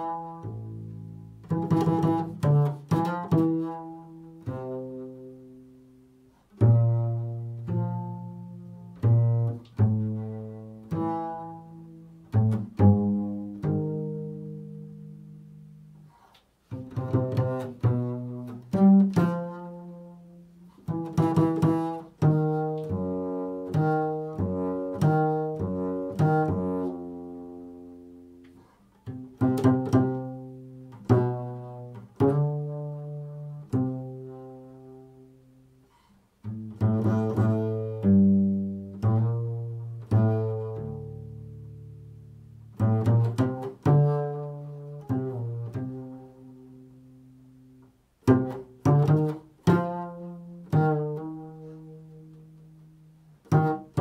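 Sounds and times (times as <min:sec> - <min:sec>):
double bass plucked notes: 0:00.0 - 0:54.0.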